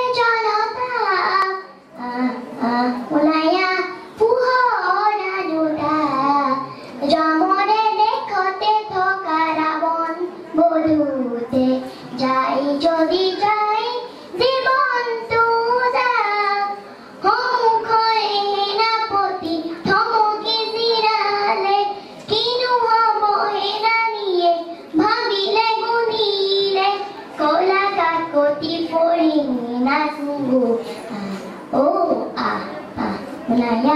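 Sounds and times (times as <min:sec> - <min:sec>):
girl singing into microphone: 0:00.0 - 0:33.9.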